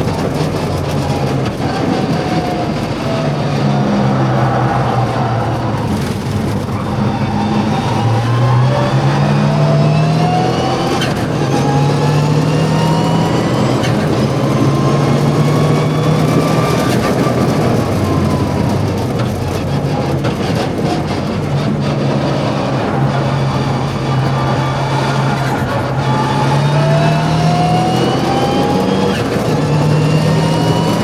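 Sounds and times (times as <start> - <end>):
rally car engine accelerating: 0.0 - 31.0.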